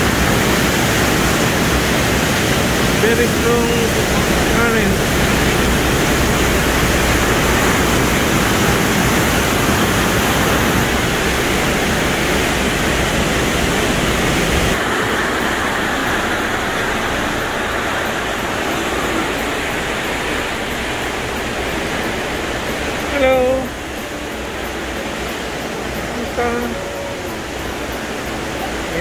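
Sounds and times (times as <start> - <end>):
turbulent water rushing: 0.0 - 29.0.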